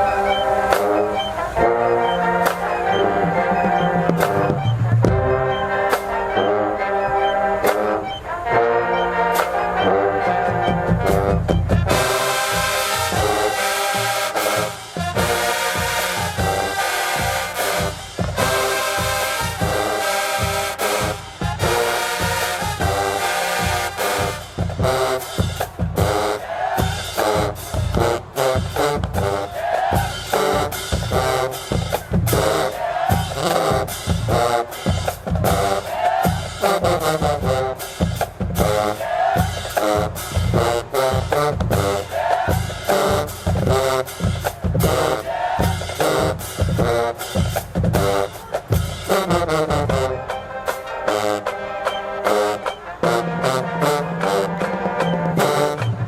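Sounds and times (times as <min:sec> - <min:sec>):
snare and bass drums: 0:00.0 - 0:01.4, 0:02.0 - 0:06.5, 0:10.5 - 0:56.0
brass horns: 0:00.0 - 0:56.0
marching band playing: 0:00.0 - 0:56.0.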